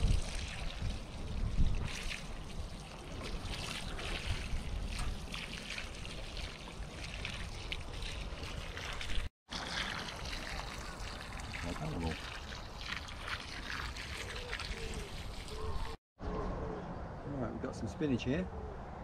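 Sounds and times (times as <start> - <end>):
watering can showering soil: 0.0 - 15.8.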